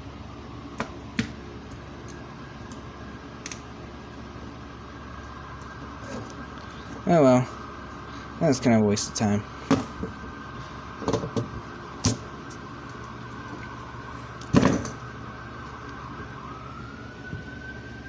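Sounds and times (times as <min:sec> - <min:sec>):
distant siren wailing: 0:00.0 - 0:18.0.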